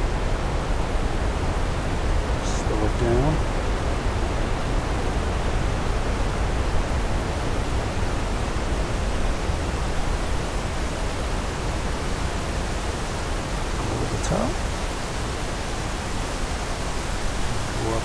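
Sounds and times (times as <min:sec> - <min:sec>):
running water and waterfall: 0:00.0 - 0:18.0.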